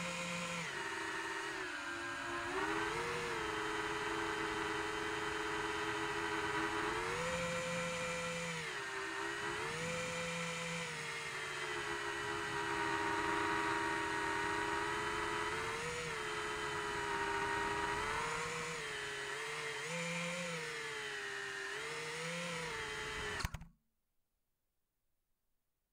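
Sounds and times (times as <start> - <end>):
quadcopter motors whining: 0.0 - 23.6.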